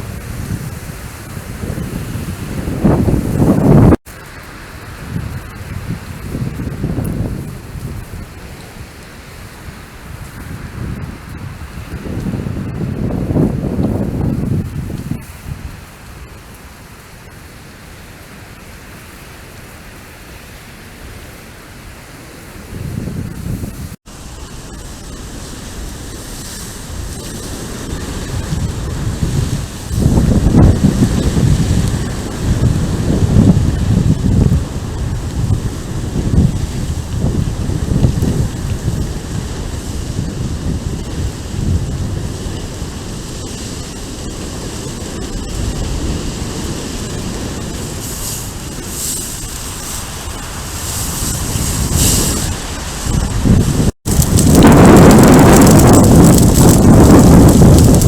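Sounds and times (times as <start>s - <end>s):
wind buffeting microphone: 0.0s - 17.4s, 22.2s - 58.0s
wildfire roaring: 0.0s - 18.8s, 22.0s - 58.0s
fire hissing flare-ups: 0.0s - 58.0s.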